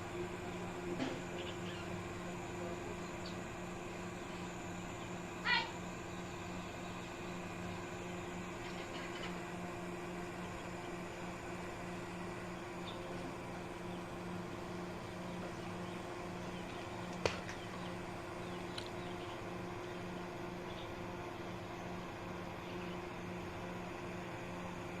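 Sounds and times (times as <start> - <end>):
small fan motor humming: 0.0 - 25.0.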